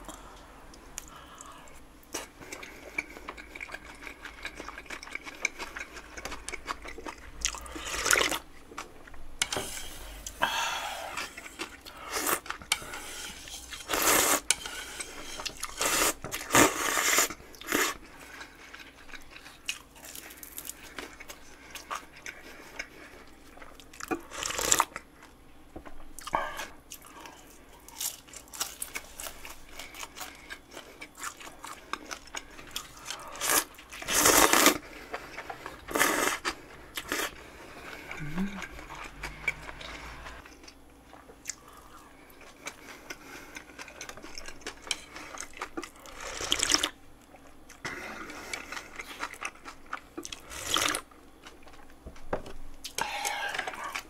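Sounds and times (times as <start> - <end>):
person chewing food: 0.1 - 25.4, 26.2 - 54.0.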